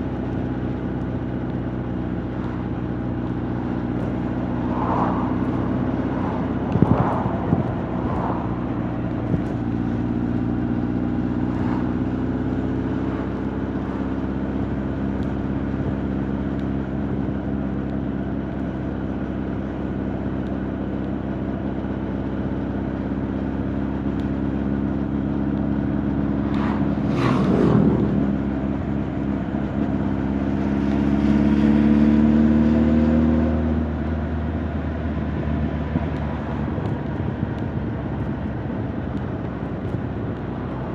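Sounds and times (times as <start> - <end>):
motorcycle engine cruising: 0.0 - 20.0, 20.8 - 40.9.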